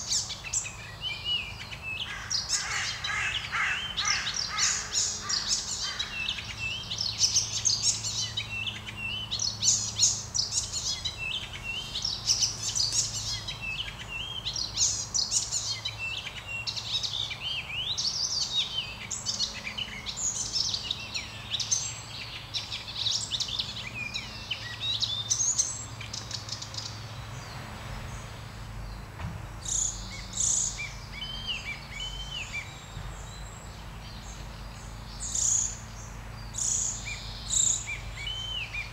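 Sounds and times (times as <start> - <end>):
warbler singing: 0.0 - 38.9.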